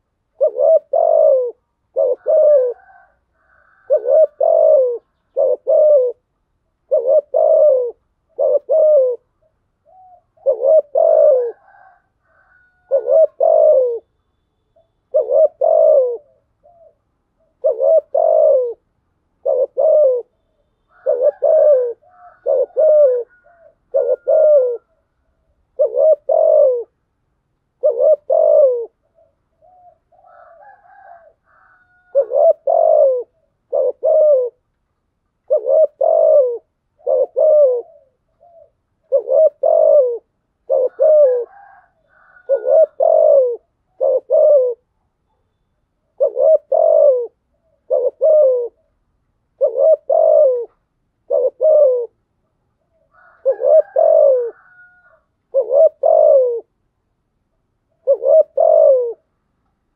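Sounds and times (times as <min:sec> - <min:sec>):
dove cooing: 0:00.0 - 0:14.2, 0:14.8 - 0:27.0, 0:27.7 - 0:34.7, 0:35.4 - 0:52.2, 0:52.8 - 0:56.8, 0:57.9 - 0:59.3.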